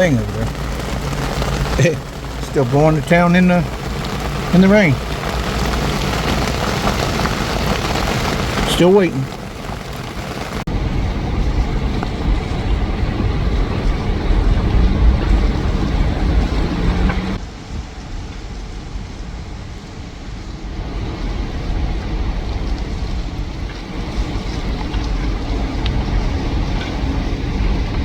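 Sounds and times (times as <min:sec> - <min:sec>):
wind gusting across microphone: 0:00.0 - 0:28.0.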